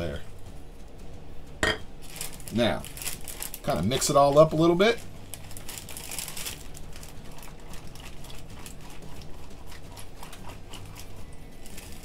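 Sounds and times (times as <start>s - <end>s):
plastic bag crinkling: 2.0s - 12.0s.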